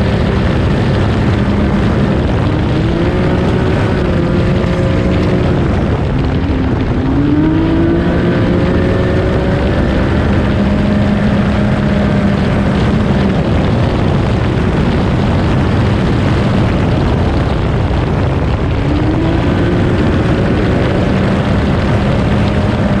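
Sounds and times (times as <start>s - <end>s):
car engine running hard: 0.0s - 23.0s
tyre and gravel noise: 0.0s - 23.0s.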